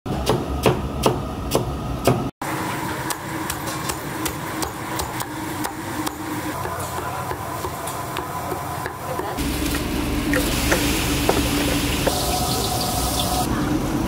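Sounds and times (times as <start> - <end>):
kitchen hum: 0.1 - 14.0.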